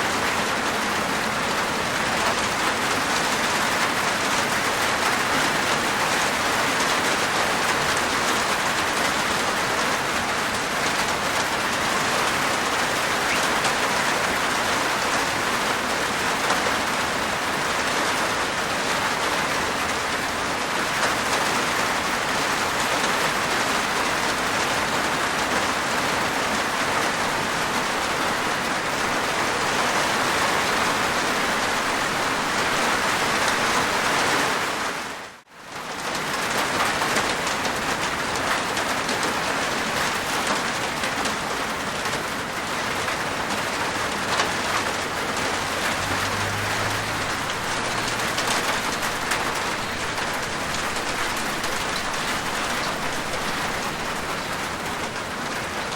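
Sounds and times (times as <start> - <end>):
heavy rain on a roof: 0.0 - 55.9.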